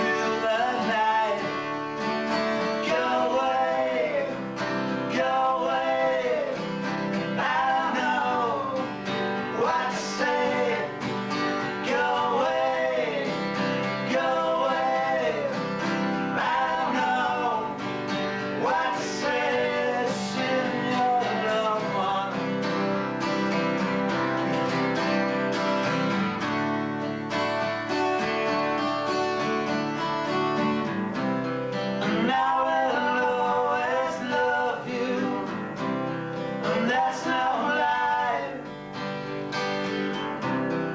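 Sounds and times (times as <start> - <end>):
acoustic guitar chords and melody: 0.0 - 40.9.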